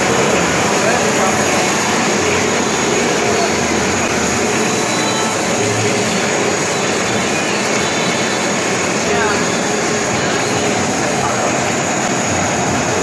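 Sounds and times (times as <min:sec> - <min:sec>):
production line machine whirring: 0:00.0 - 0:13.0.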